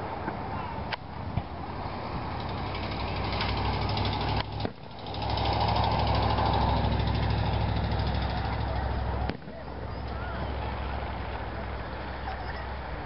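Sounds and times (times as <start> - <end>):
low engine hum: 0.0 - 13.0
rushing outdoor noise: 0.0 - 13.0.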